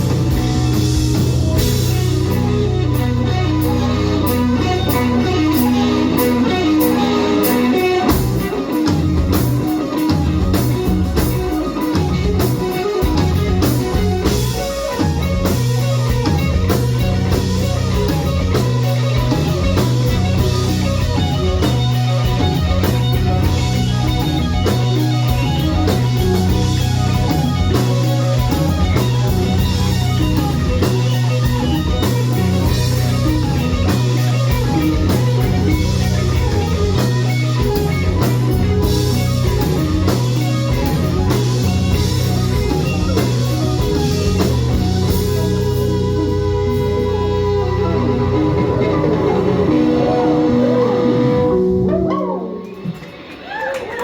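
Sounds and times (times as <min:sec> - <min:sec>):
drum kit: 0:00.0 - 0:54.0
electric guitar: 0:00.0 - 0:54.0
rock band music: 0:00.0 - 0:54.0.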